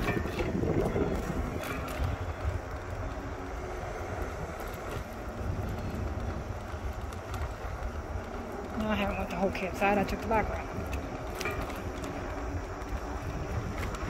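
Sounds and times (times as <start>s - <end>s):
bicycle tyres rumbling on road: 0.0s - 14.0s.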